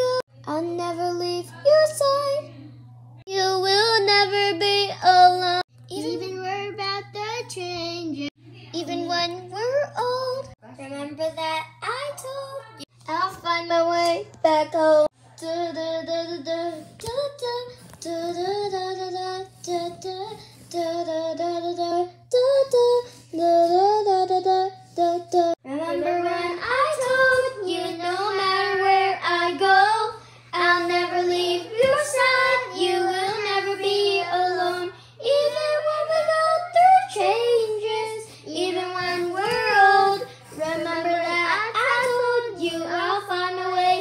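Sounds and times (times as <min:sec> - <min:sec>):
child singing: 0:00.0 - 0:02.6, 0:03.3 - 0:44.0.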